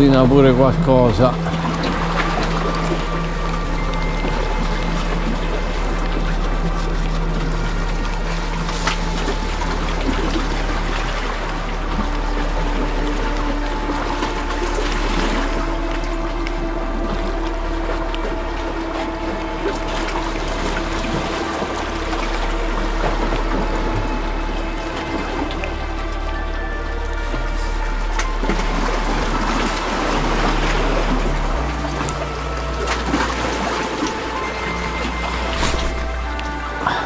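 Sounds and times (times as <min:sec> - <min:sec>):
music with long held notes: 0:00.0 - 0:37.0
sea water washing on rocks: 0:00.0 - 0:37.0.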